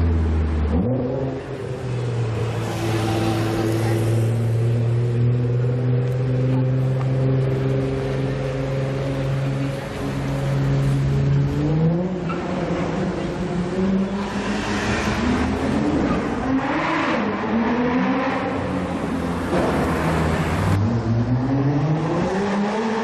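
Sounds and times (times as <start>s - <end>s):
car engines revving and accelerating: 0.0s - 23.0s
street traffic: 0.0s - 23.0s.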